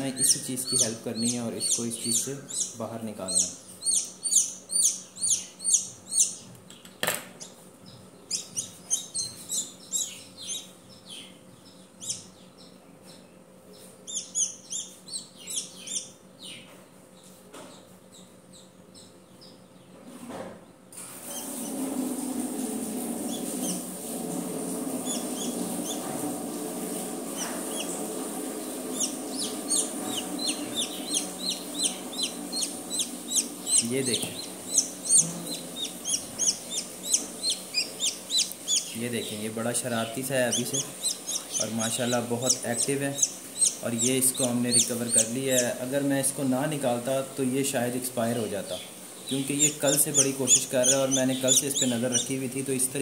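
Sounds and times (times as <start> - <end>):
chick peeping: 0.0 - 20.0, 21.2 - 52.8
steady low hum: 0.0 - 53.0.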